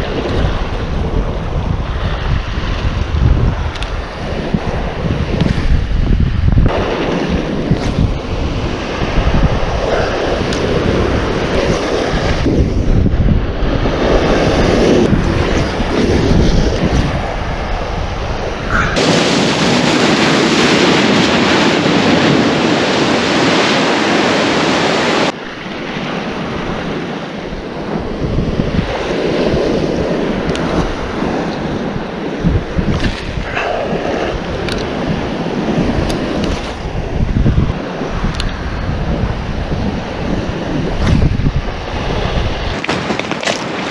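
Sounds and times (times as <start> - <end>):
surf breaking on rocks: 0.0 - 38.4, 39.0 - 43.9
wind buffeting microphone: 0.0 - 43.9.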